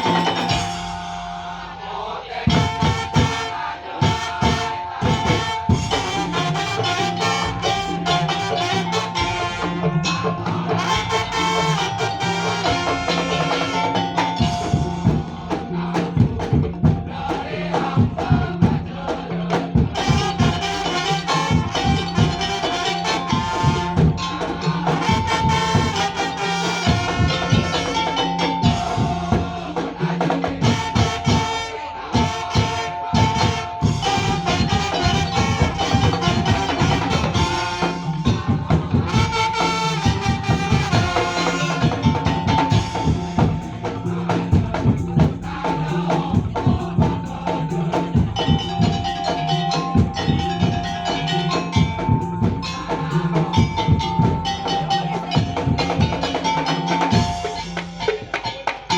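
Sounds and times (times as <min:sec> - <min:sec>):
fast drum and percussion strokes: 0:00.0 - 0:58.9.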